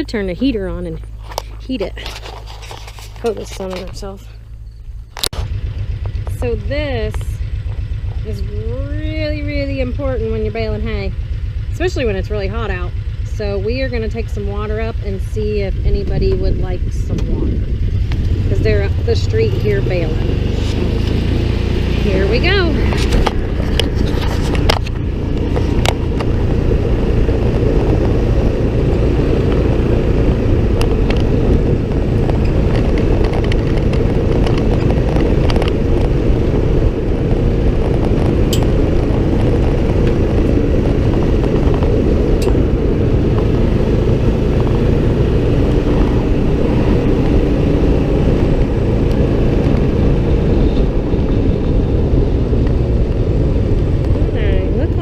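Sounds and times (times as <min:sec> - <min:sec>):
sharp rattles over bumps: 0:00.0 - 0:55.0
utility vehicle engine running: 0:00.0 - 0:55.0.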